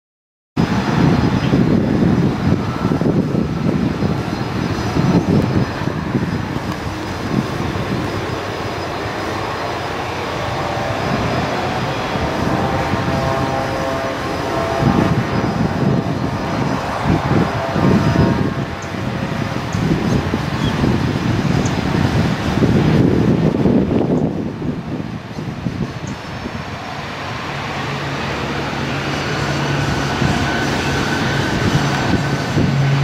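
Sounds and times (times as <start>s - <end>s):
high engine whine: 0.6s - 33.0s
turboprop engines rumbling: 0.6s - 33.0s.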